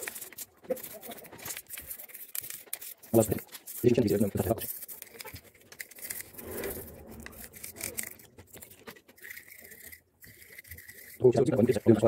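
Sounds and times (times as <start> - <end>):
brush scrubbing metal valve: 0.0 - 12.0.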